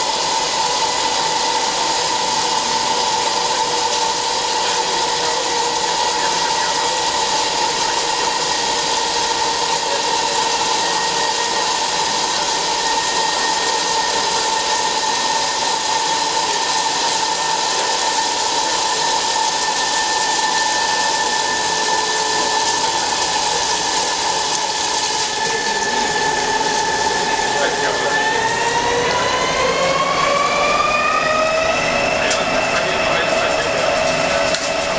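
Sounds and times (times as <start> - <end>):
lathe machining with hiss and whine: 0.0 - 34.9.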